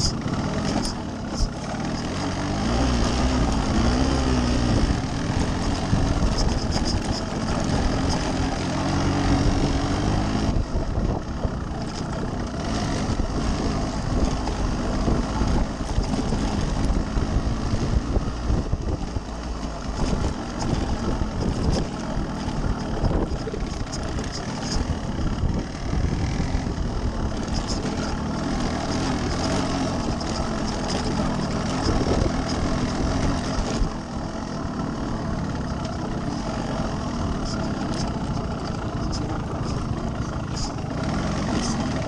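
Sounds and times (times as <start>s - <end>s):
two-stroke motorcycle engine: 0.0s - 42.0s.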